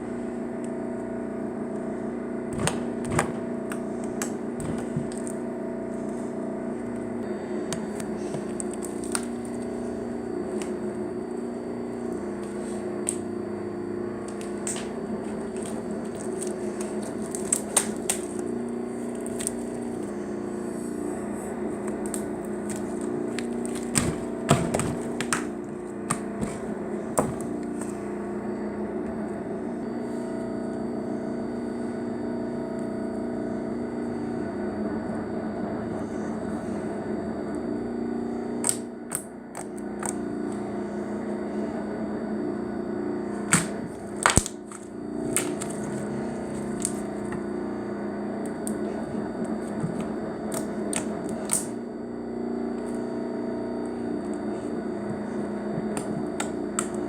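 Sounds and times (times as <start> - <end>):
low held tones humming: 0.0 - 57.0.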